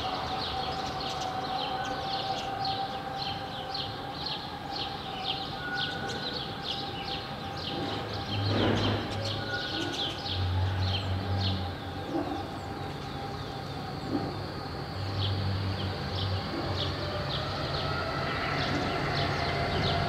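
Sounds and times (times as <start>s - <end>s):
birds chirping: 0.0s - 20.0s
street background: 0.0s - 20.0s.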